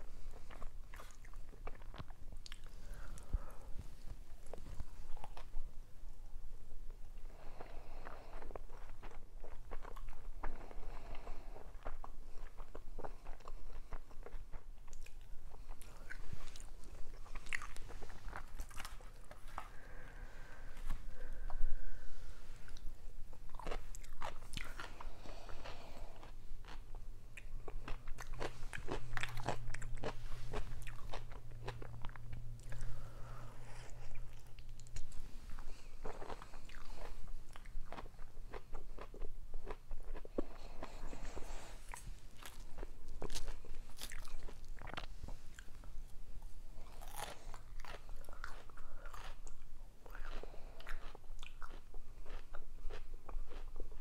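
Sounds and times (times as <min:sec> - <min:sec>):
close-miked eating and chewing: 0:00.0 - 0:54.0.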